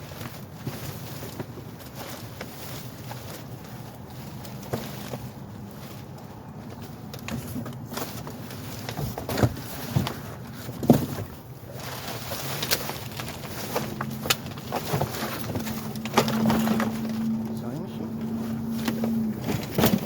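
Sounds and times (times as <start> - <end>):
rummaging knocks and clatters: 0.0 - 20.0
steady low hum: 0.0 - 20.0.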